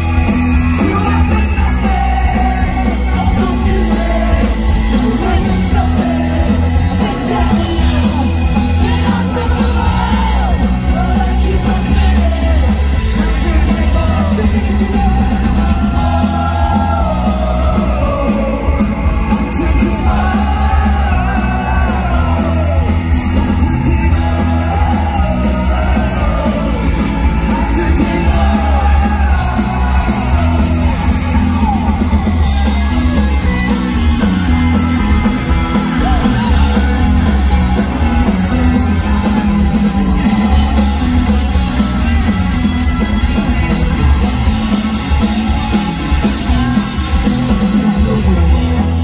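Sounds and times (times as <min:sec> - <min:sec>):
crowd yelling: 0:00.0 - 0:49.0
live ska punk band playing: 0:00.0 - 0:49.0.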